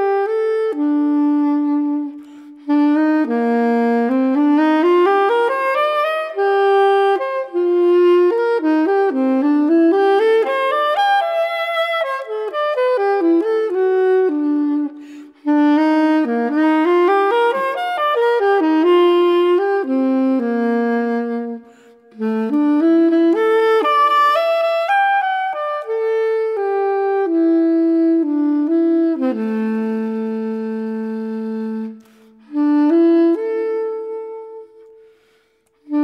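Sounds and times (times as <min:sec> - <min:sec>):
wind instrument melody: 0:00.0 - 0:36.0.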